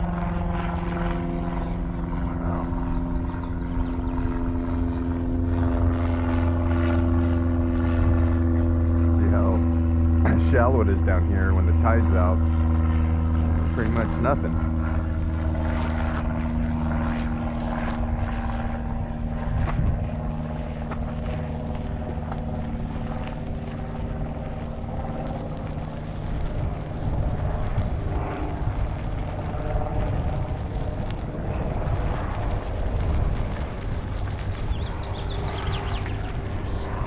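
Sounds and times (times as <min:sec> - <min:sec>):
propeller aircraft engine droning: 0:00.0 - 0:37.0
wind rumble on microphone: 0:00.0 - 0:37.0.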